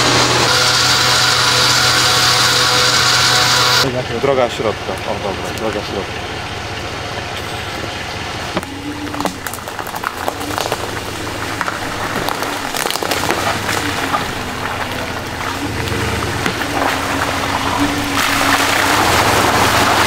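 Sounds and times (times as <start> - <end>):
off-road vehicle tyre noise: 0.0 - 20.0.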